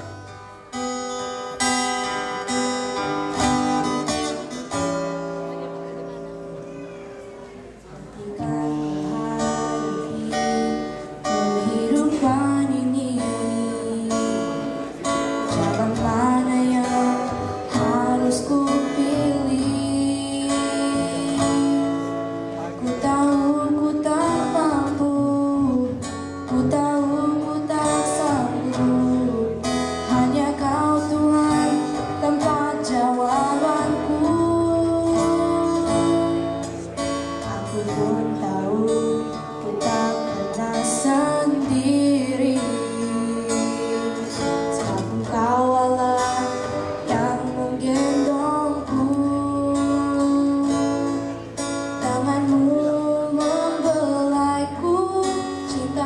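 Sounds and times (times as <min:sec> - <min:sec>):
acoustic guitar: 0:00.0 - 0:56.0
girl singing into a microphone: 0:08.2 - 0:56.0.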